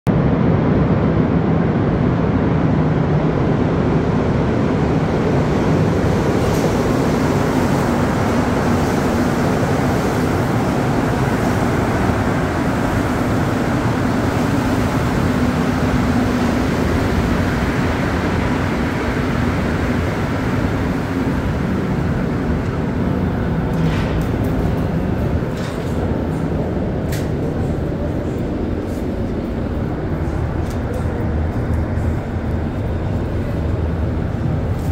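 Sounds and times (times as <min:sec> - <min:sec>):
low motor hum: 0:00.1 - 0:34.9
train rumbling into station: 0:00.1 - 0:34.9.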